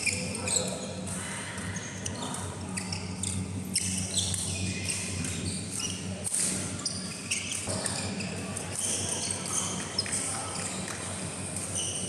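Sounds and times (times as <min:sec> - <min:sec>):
shoes squeaking on floor: 0:00.0 - 0:00.9, 0:02.2 - 0:12.0.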